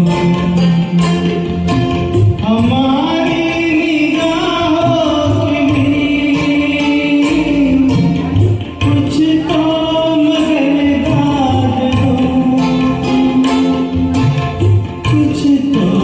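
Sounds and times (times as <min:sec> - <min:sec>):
backing track with steady beat: 0:00.0 - 0:16.0
person singing karaoke: 0:00.0 - 0:16.0.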